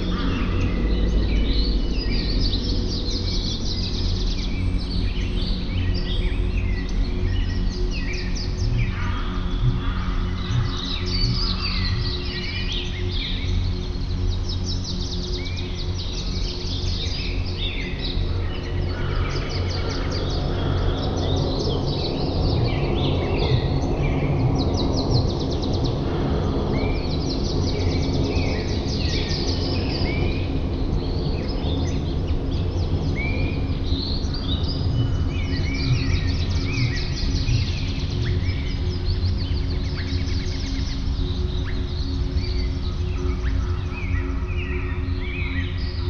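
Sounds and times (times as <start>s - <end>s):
songbirds chirping and trilling: 0.0s - 46.0s
steady low rumble: 0.0s - 46.0s.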